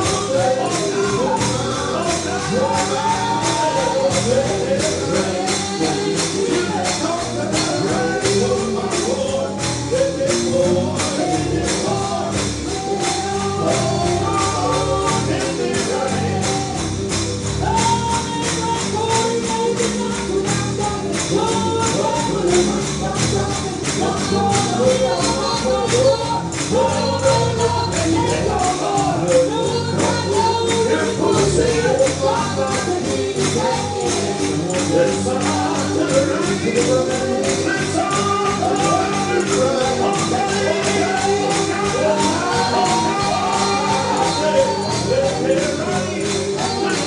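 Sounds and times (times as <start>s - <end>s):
tambourine beat: 0.0s - 47.0s
voices singing gospel: 0.0s - 47.0s.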